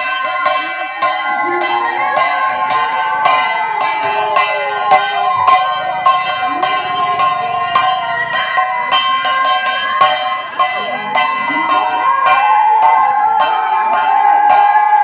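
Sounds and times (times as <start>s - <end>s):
temple bells ringing: 0.0s - 15.0s.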